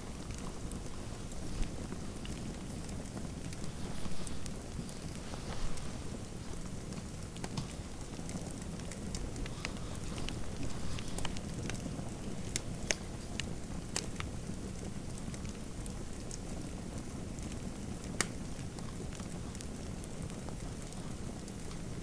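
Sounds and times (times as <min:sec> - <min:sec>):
fire pops: 0:00.0 - 0:22.0
wood fire crackling: 0:00.0 - 0:22.0.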